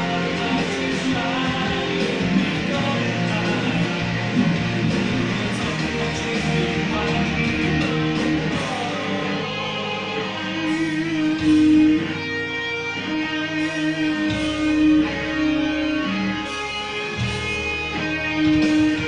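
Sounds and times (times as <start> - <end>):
electric guitar strumming chords: 0.0 - 19.0.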